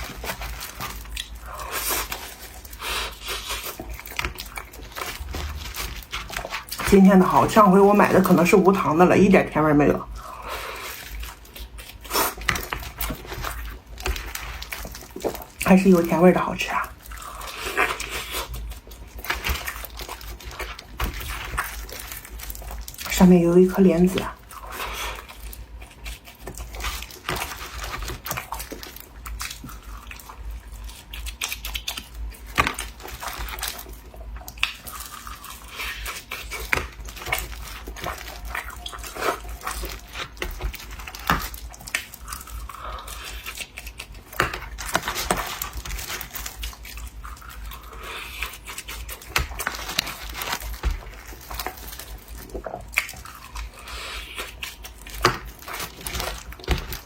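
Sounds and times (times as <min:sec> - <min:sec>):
person chewing sticky food: 0:00.0 - 0:57.0.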